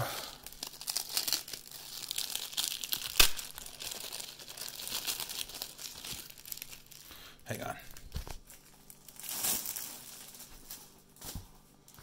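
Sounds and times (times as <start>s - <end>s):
plastic wrap crinkling and tearing: 0.2s - 11.4s.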